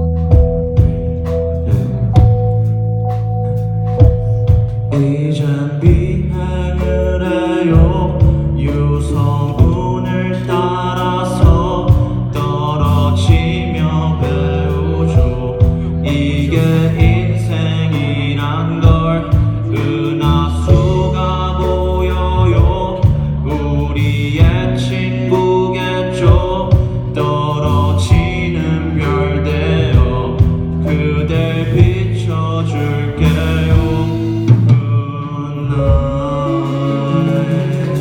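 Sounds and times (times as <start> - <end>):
live band playing pop song: 0.0 - 38.0.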